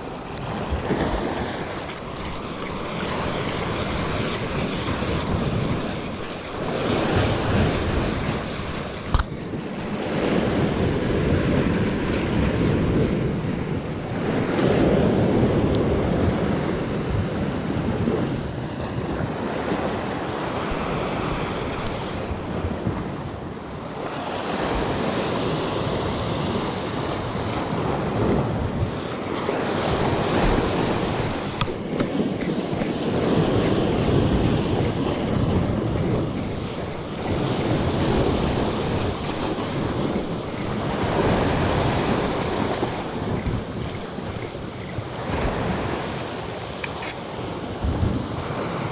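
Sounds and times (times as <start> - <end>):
sea waves washing over rocks: 0.0 - 48.9
wind buffeting microphone: 0.0 - 48.9.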